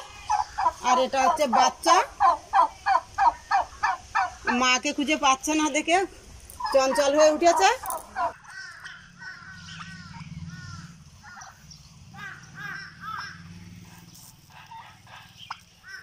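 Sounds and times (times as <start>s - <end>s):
turkeys yelping: 0.0s - 4.8s, 6.6s - 16.0s.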